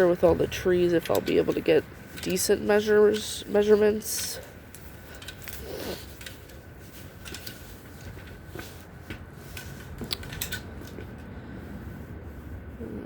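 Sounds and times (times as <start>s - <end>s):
rustling and clicking of handling: 0.0s - 11.4s.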